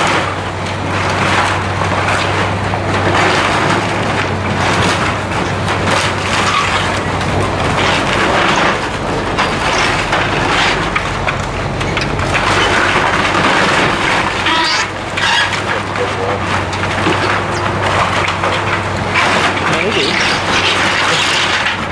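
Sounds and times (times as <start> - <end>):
demolition machinery engine hum: 0.0 - 21.9
wooden timbers cracking and snapping: 0.0 - 21.9.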